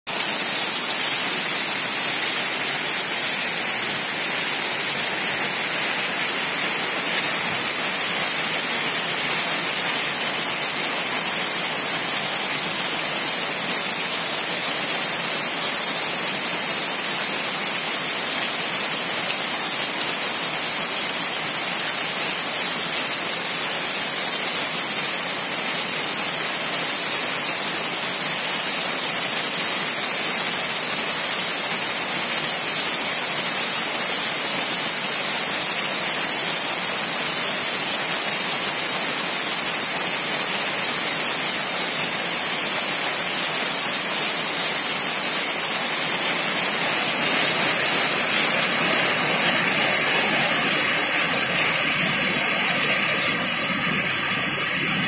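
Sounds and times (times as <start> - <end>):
heavy rain on trees and ground: 0.1 - 55.0
water streaming off roof: 0.1 - 55.0.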